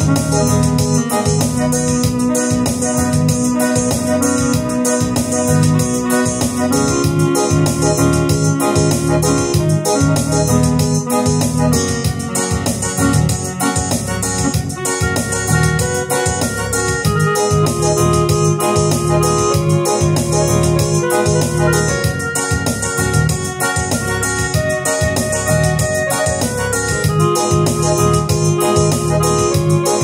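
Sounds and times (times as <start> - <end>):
bass line: 0.0 - 30.0
keyboard organ-like melody: 0.0 - 30.0
steady drum beat with hi-hat: 0.0 - 30.0.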